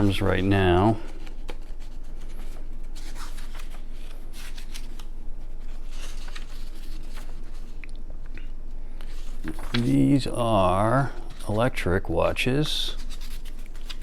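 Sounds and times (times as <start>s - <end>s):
book pages turning: 0.0s - 7.8s, 9.0s - 14.0s.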